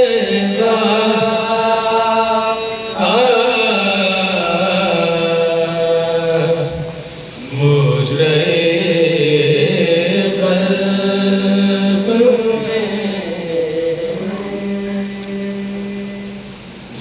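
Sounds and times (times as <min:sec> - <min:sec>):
men chanting unaccompanied: 0:00.0 - 0:17.0.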